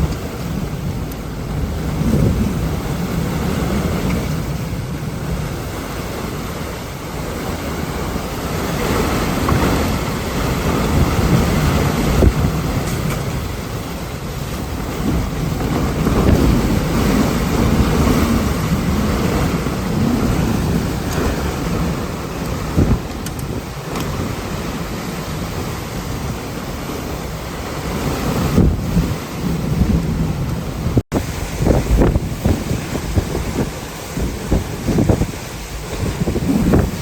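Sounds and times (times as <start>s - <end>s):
gusting wind and driving rain: 0.0s - 37.0s.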